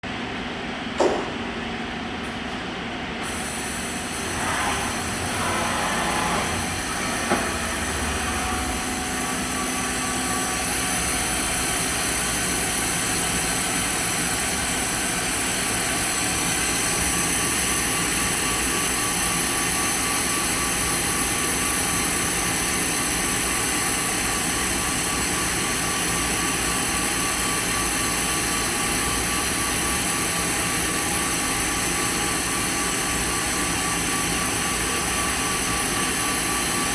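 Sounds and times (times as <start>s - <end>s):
machining center humming and whining: 0.1s - 36.9s.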